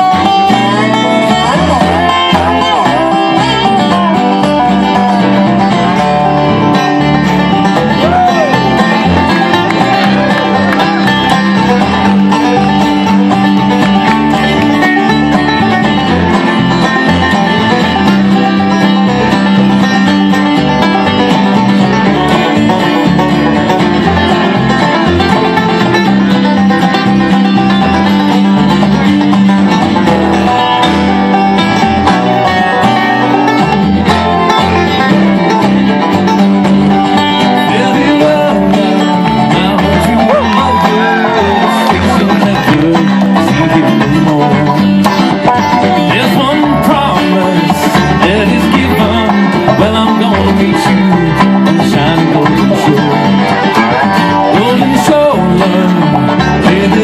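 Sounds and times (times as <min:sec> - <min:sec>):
banjo: 0:00.0 - 0:57.0
bluegrass band playing: 0:00.0 - 0:57.0.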